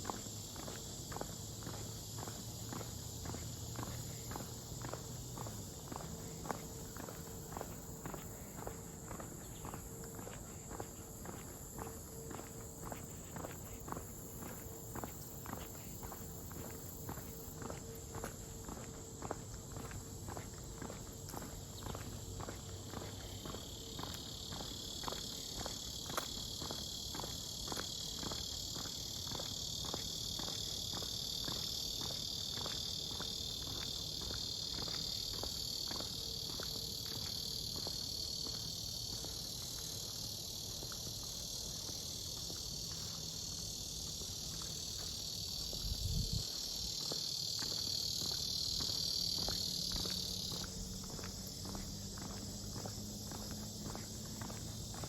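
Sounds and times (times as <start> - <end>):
footsteps on trail: 0.0 - 55.0
insect chorus trilling: 0.0 - 55.0.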